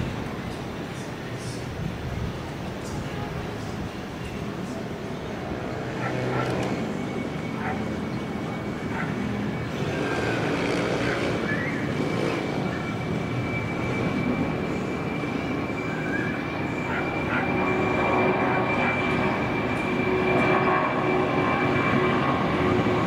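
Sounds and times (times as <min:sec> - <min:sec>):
high jet engine whine: 0:00.0 - 0:23.0
jet engines rumbling: 0:00.0 - 0:23.0.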